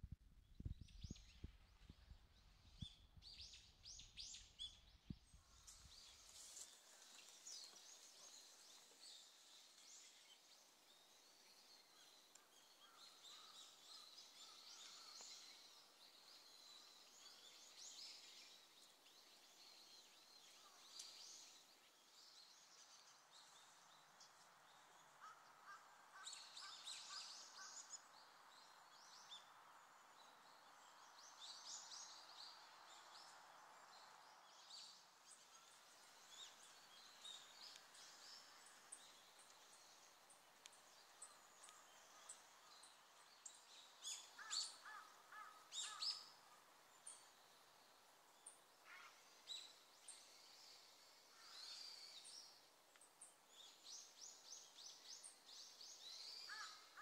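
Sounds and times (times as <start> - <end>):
small birds chirping: 0.4 - 57.0.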